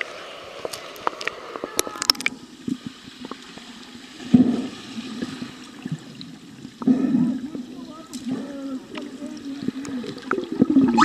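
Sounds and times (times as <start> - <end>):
underwater bubbles: 0.0 - 11.0
underwater rushing and gurgling: 0.0 - 11.0.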